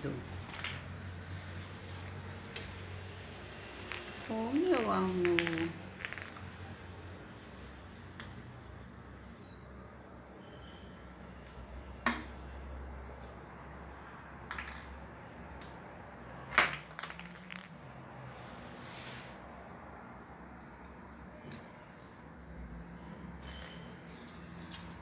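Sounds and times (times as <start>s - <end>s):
toy ball rattling on tiled floor: 0.2s - 1.4s, 3.3s - 13.5s, 14.4s - 18.6s, 20.4s - 25.0s.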